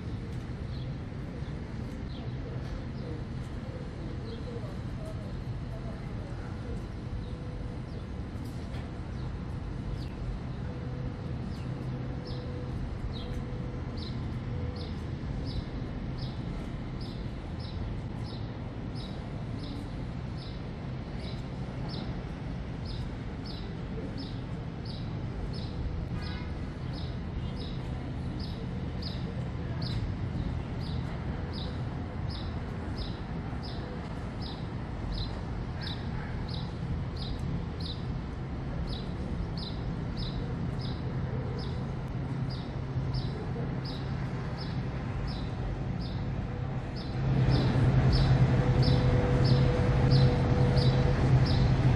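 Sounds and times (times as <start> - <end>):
distant traffic hum: 0.0 - 51.9.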